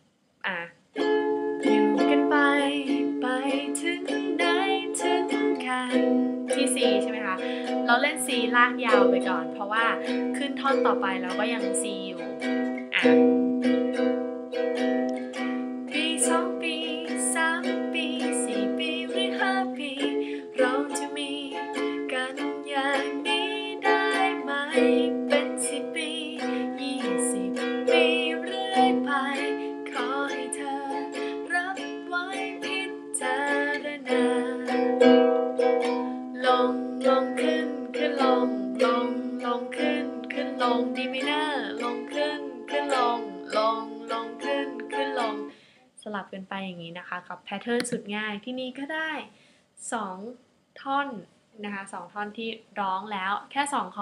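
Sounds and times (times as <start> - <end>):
ukulele strumming: 0.5 - 45.6, 47.8 - 48.0.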